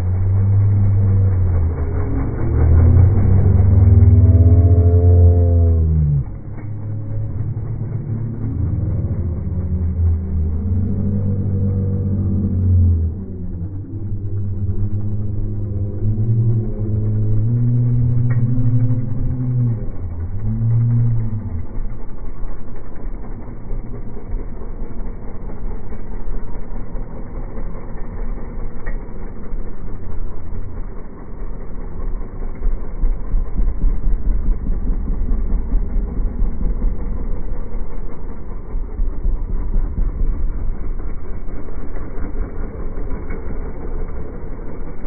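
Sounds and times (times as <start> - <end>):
motorcycle engines idling: 0.0 - 45.0.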